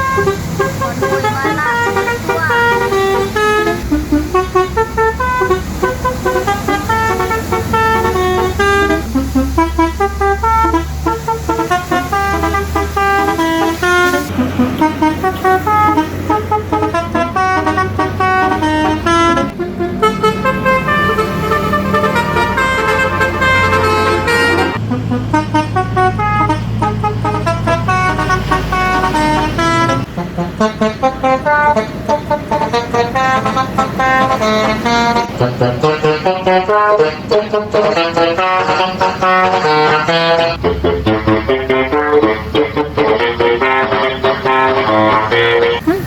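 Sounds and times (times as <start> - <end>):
engine rumble: 0.0 - 46.0
truck and bus horns playing notes: 0.0 - 46.0.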